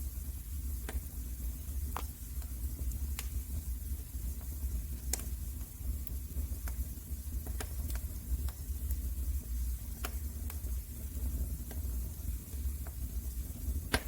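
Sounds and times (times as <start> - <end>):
low rumble of burning fire: 0.0 - 14.0
wood fire pops and snaps: 0.7 - 3.6, 4.3 - 9.2, 9.8 - 14.0.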